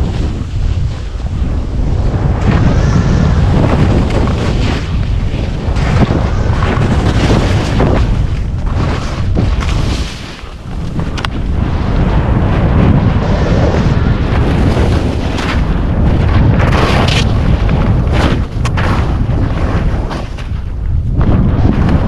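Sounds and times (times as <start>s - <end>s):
skis scraping through snow: 0.0s - 20.6s
wind buffeting microphone: 0.0s - 22.0s.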